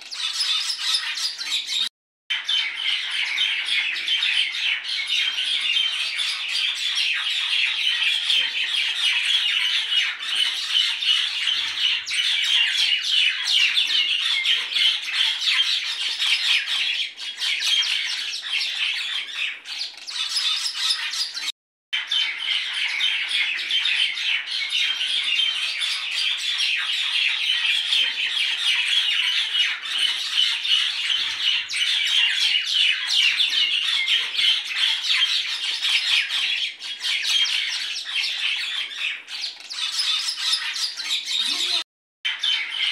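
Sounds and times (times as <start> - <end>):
flock of small birds chirping: 0.0 - 42.9.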